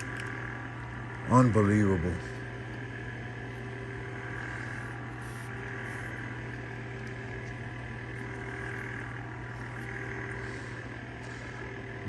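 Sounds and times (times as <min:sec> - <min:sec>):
faint constant tone: 0:00.0 - 0:12.0
steady low hum: 0:00.0 - 0:12.0.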